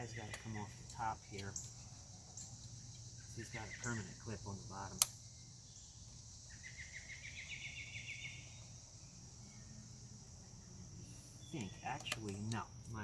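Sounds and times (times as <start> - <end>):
bird trilling chirps: 0.0 - 12.7
insects chirring: 0.0 - 13.0.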